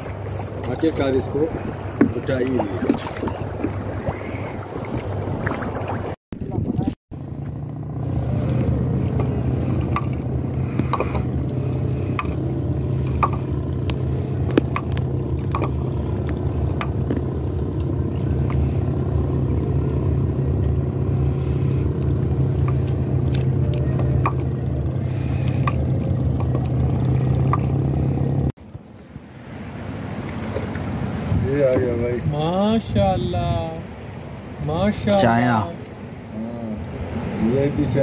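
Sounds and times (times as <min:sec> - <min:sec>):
engine droning: 0:00.0 - 0:38.0.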